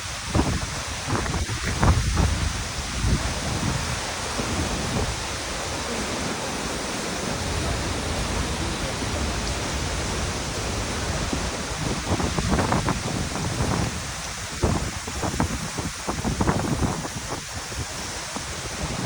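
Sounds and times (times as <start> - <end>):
waterfall rushing: 0.0 - 19.0
wind buffeting microphone: 0.0 - 19.0.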